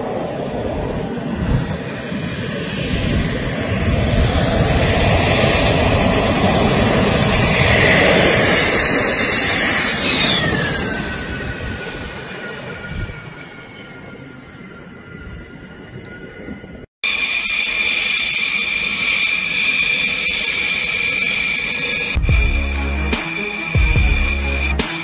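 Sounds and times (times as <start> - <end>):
jet engine whine passing: 0.0 - 25.0.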